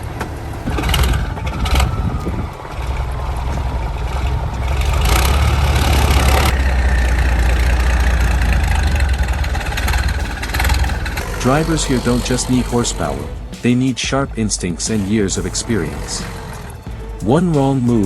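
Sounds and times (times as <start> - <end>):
hissing noise: 0.0 - 18.0
truck engine droning: 0.0 - 18.0.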